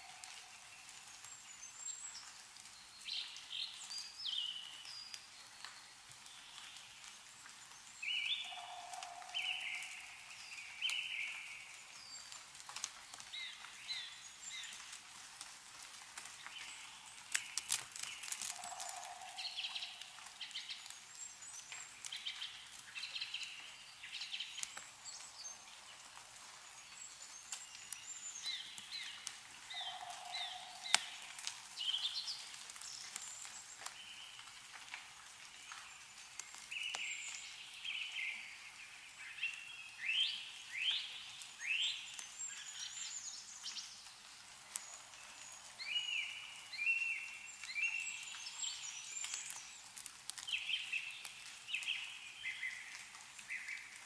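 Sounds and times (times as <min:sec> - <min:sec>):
melting snow dripping: 0:00.0 - 0:54.0
small birds chirping: 0:00.0 - 0:54.0.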